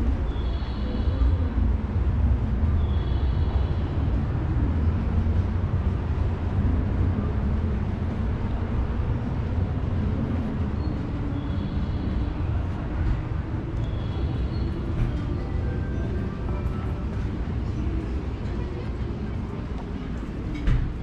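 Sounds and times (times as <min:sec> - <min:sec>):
low city street rumble: 0:00.0 - 0:21.0.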